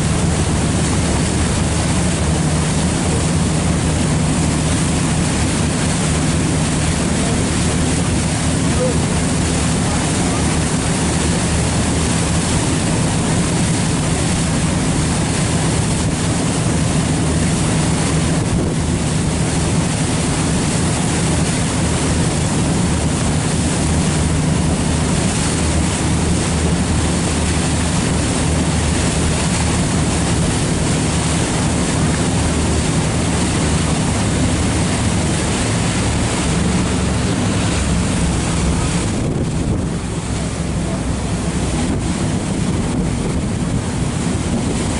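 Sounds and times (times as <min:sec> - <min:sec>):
boat engine humming: 0:00.0 - 0:44.9
rushing water: 0:00.0 - 0:44.9
wind on microphone: 0:00.0 - 0:44.9.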